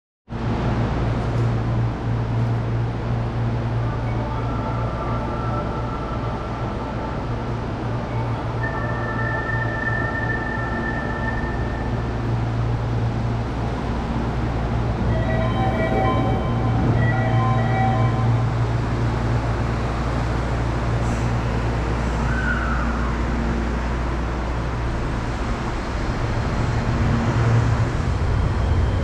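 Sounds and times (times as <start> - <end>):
electric train humming: 0.4 - 29.0.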